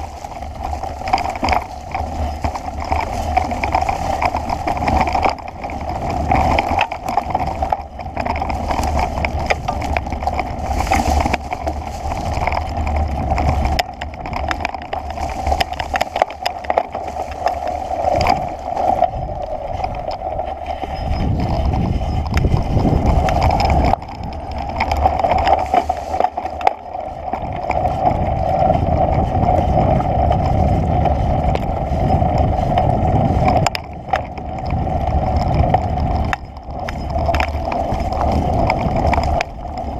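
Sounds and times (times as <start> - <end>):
bicycle rattling over dirt: 0.0 - 39.9
low rumble: 0.0 - 39.9.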